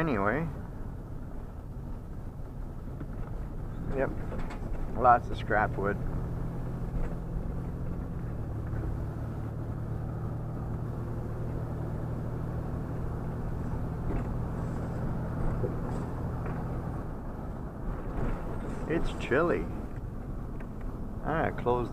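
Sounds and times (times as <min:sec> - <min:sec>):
vehicle cabin engine hum: 0:00.0 - 0:21.9.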